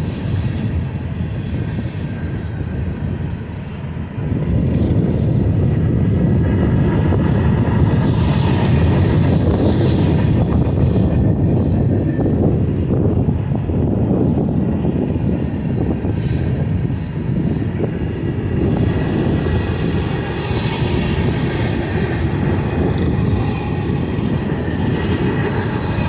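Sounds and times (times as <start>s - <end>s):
freight train wheels rumbling on rail: 0.0s - 26.0s
steady high whine: 2.3s - 26.0s.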